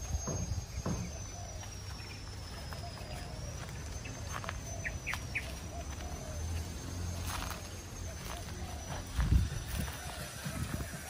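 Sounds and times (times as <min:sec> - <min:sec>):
low outdoor background: 0:00.0 - 0:11.0.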